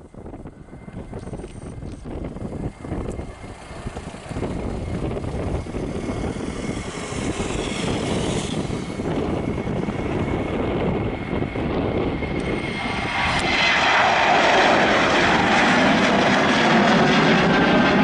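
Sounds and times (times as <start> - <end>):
jet engines rumbling at takeoff: 0.0 - 18.0
thin steady engine whine: 0.0 - 18.0.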